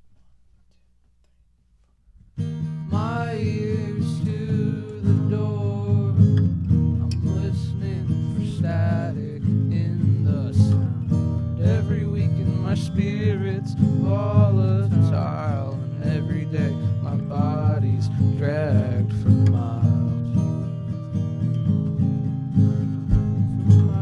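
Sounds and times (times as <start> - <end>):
acoustic guitar playing: 2.1 - 24.0.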